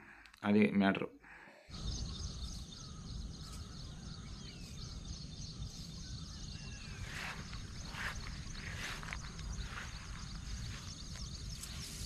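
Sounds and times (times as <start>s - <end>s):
faint bird calls: 1.2s - 12.0s
insects chirring: 1.7s - 12.0s
wind rumbling on microphone: 1.8s - 12.0s.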